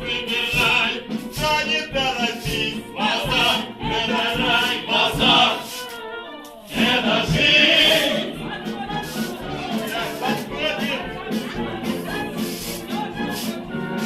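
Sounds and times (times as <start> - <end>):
choir singing with music: 0.0 - 14.0.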